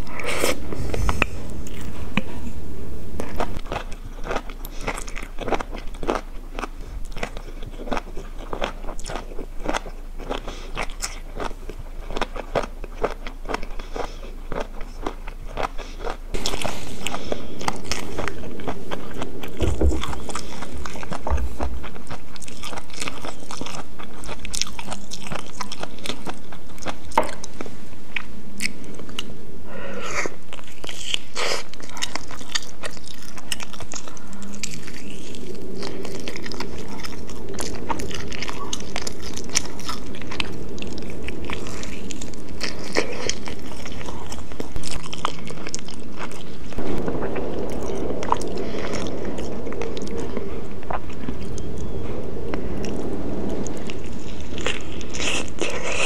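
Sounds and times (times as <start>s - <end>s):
close chewing of noodles: 0.0s - 2.6s, 3.2s - 46.8s, 51.0s - 56.0s.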